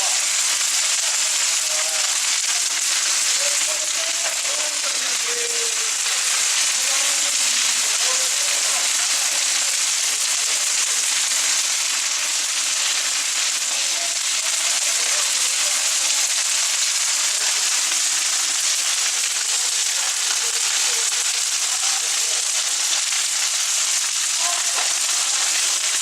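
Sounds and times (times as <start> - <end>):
bonfire crackling and hissing: 0.0 - 26.0.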